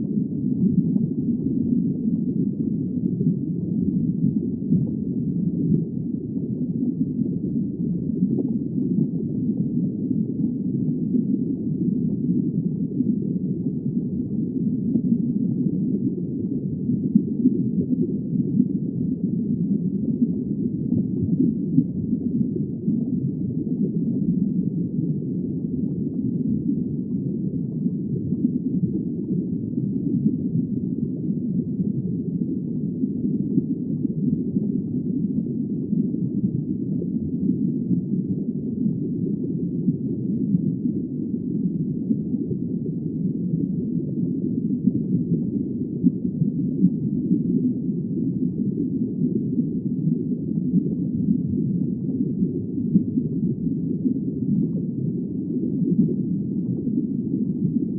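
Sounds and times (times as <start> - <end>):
muffled underwater water noise: 0.0 - 57.9.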